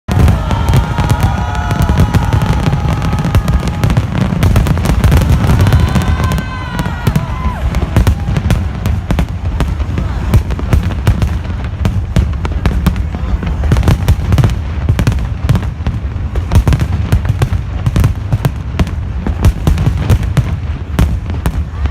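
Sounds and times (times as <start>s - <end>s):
deep fireworks booms: 0.1s - 21.9s
fireworks bangs and crackling: 0.1s - 21.9s.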